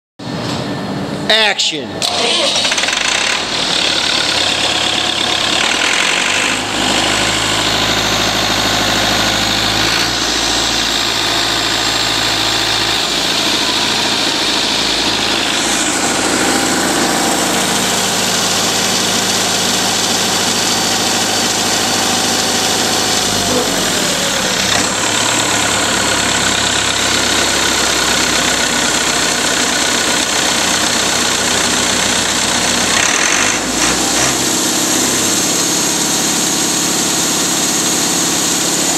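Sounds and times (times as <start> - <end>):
diesel engine running: 2.0 - 38.9.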